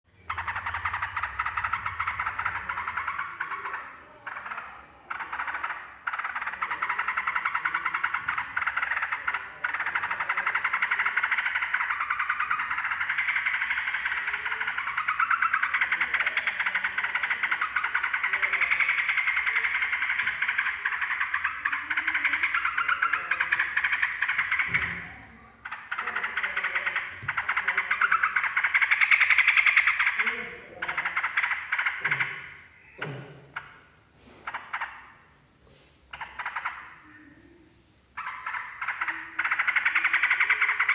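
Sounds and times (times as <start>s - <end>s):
bird chattering song: 0.1s - 35.3s, 36.1s - 37.6s, 38.2s - 40.9s.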